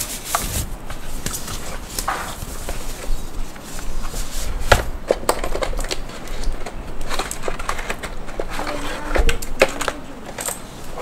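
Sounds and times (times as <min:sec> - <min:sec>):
plastic cover rustling: 0:00.0 - 0:11.0.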